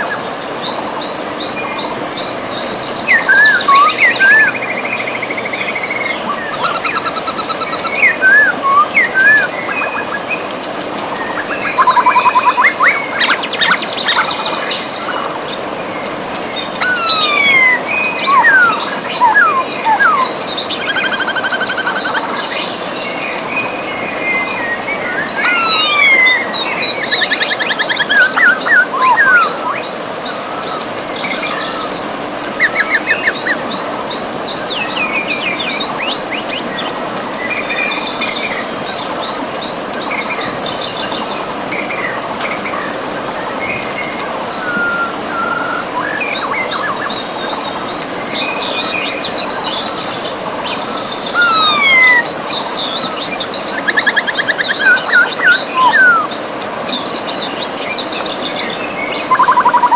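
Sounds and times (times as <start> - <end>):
birds singing and trilling: 0.0 - 59.9
flowing river water: 0.0 - 59.9.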